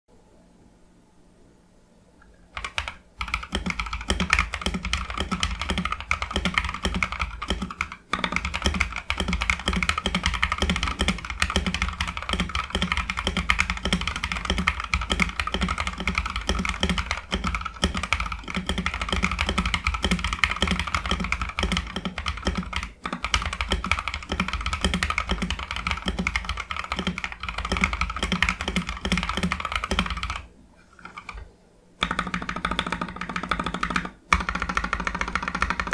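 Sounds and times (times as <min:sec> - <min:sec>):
typing on mechanical keyboard: 0:02.5 - 0:31.4, 0:32.0 - 0:35.9.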